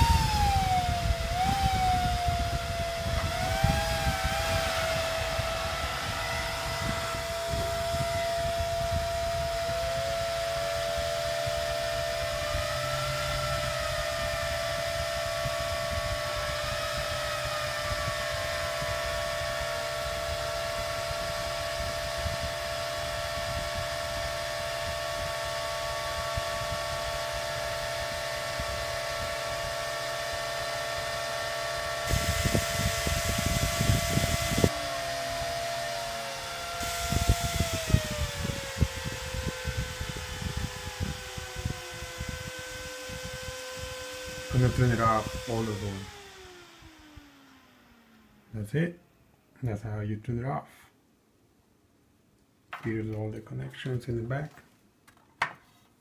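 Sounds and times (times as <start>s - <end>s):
server fans whining: 0.0s - 49.8s.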